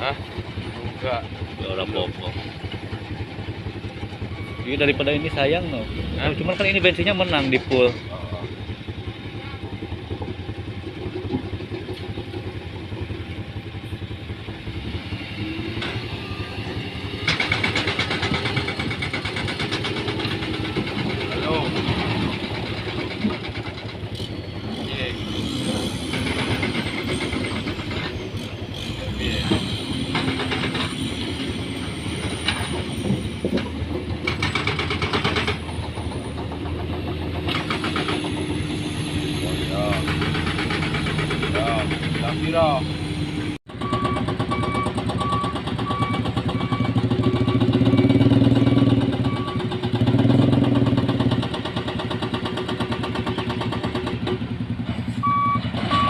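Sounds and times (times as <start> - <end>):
engine idling: 0.0 - 15.7, 16.3 - 29.5, 32.1 - 56.0.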